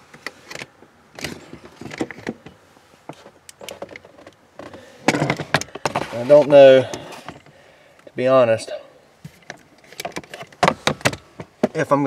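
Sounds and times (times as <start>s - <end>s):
handling clicks and rustles: 0.0s - 8.2s, 9.2s - 12.0s.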